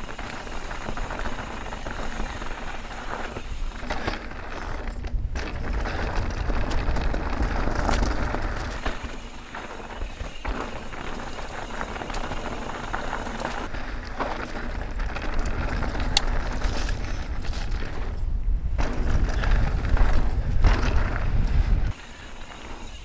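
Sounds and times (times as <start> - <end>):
wind rumble on microphone: 0.0 - 9.1, 10.8 - 22.0
bike clicks and rattles: 0.0 - 23.0
bike tyres crunching over dirt: 0.0 - 23.0.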